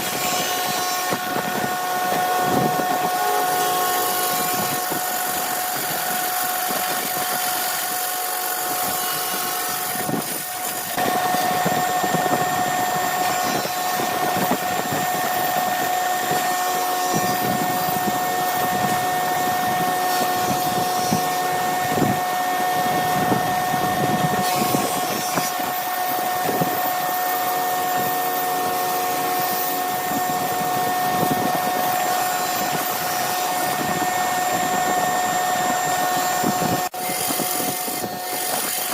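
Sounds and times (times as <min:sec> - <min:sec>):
lathe motor whine: 0:00.0 - 0:38.9
rough noise of spinning wood: 0:00.0 - 0:38.9.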